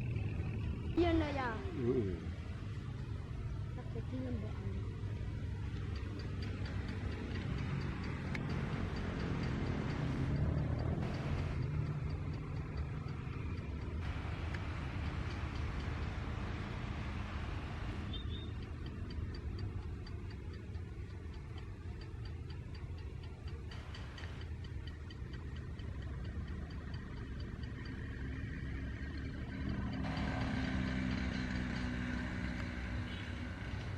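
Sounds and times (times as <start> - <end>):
regular high ticking: 0.0 - 31.2
low engine rumble: 0.0 - 33.9.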